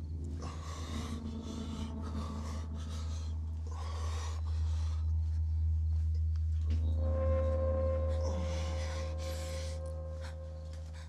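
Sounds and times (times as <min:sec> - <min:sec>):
woman breathing heavily: 0:00.0 - 0:06.3, 0:07.8 - 0:11.0
low steady drone: 0:00.0 - 0:11.0.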